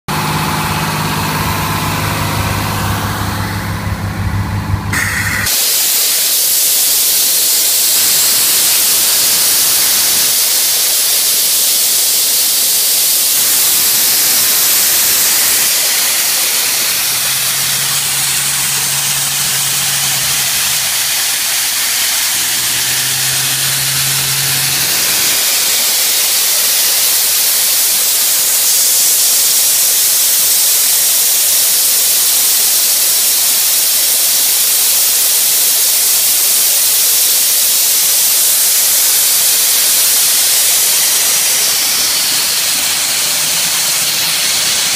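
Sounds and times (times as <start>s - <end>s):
air compressor engine running: 0.1s - 44.9s
compressed air hissing out: 4.8s - 44.9s.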